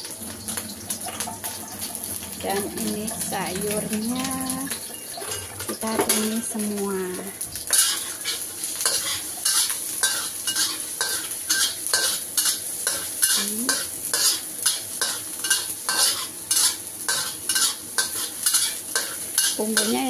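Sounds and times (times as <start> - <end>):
garlic sizzling in oil: 0.0 - 20.0
metal spatula scraping wok: 0.5 - 6.4, 7.7 - 20.0.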